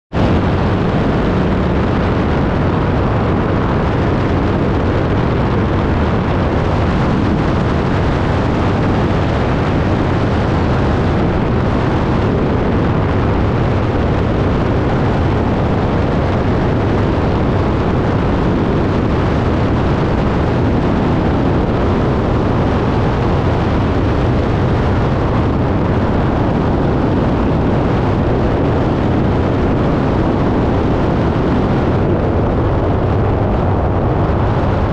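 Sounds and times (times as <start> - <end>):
propeller aircraft engine drone: 0.1 - 34.9.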